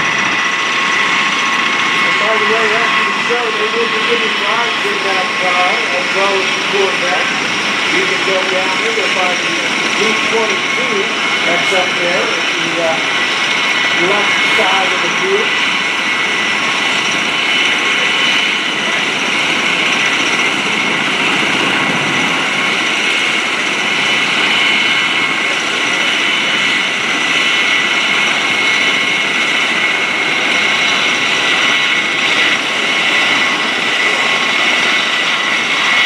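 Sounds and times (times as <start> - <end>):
propeller plane engine overhead: 0.0 - 36.0.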